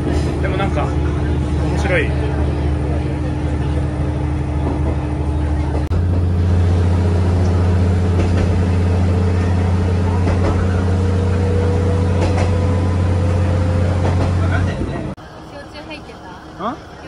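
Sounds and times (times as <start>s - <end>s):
railcar engine drone: 0.0s - 17.0s.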